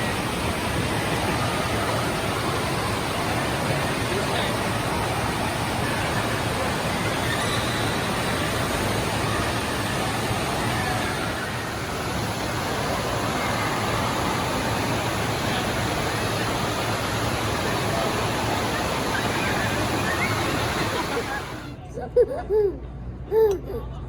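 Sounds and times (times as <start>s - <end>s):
rushing water: 0.0s - 21.7s
faint voices: 0.0s - 24.0s.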